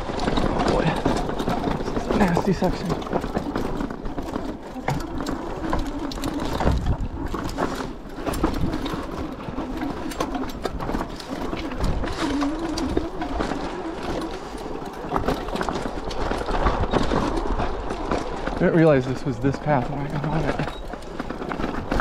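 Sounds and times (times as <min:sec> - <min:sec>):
bike rattling over rocks: 0:00.0 - 0:22.0.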